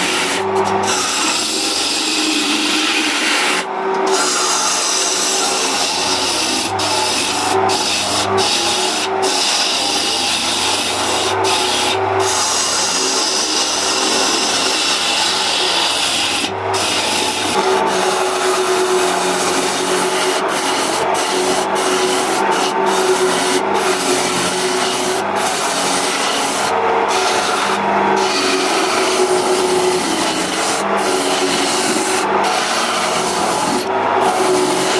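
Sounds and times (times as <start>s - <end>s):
lathe humming: 0.0s - 34.9s
tool scraping spinning wood: 0.0s - 34.9s.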